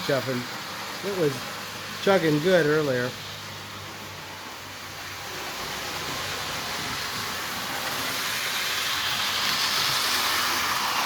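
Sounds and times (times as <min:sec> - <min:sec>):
toy train running on track: 0:00.0 - 0:11.0.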